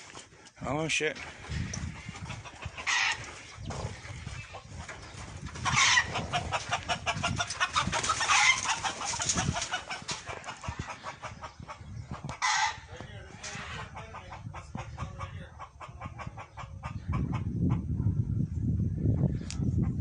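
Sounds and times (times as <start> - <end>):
chickens clucking and squawking: 1.2 - 20.0.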